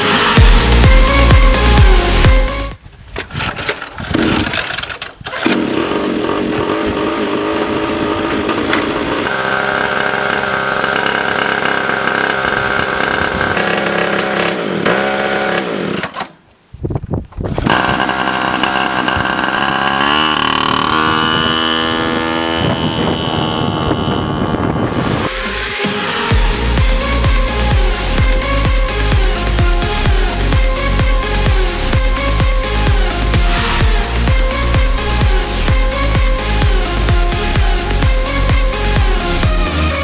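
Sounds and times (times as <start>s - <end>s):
minibike engine revving: 0.0s - 16.3s, 17.4s - 40.0s.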